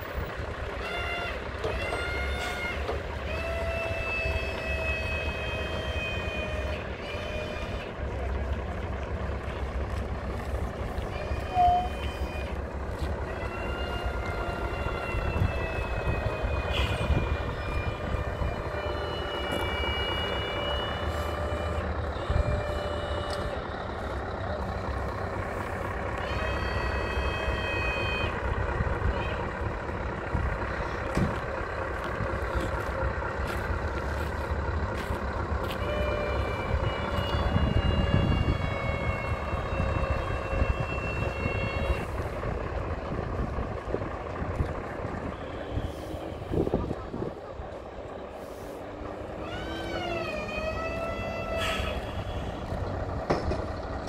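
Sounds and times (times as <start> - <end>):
truck diesel engine running low: 0.0 - 54.0
high-pitched squeals: 0.6 - 8.1, 10.3 - 32.8, 35.2 - 54.0.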